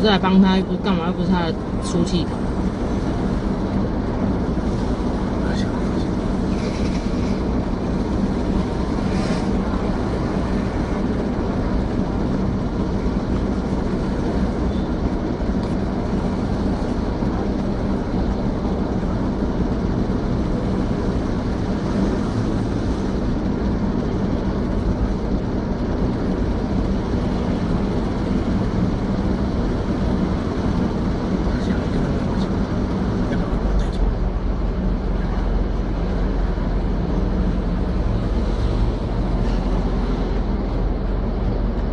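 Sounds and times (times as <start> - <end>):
constant low hum: 0.0 - 41.9
low rumble and hiss: 0.0 - 41.9.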